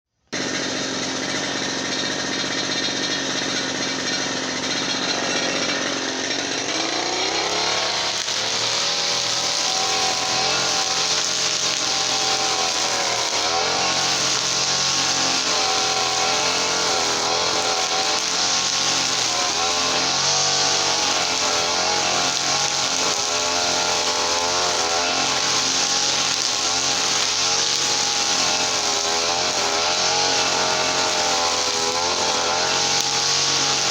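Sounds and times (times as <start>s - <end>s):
brush cutter engine revving: 0.3s - 33.9s.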